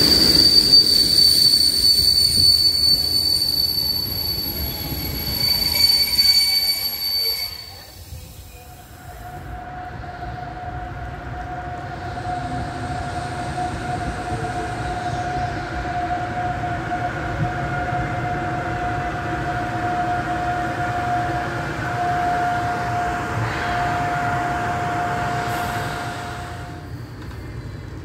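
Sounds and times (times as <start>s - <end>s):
locomotive steady whine: 0.0s - 28.0s
train rolling rumble: 0.0s - 28.0s.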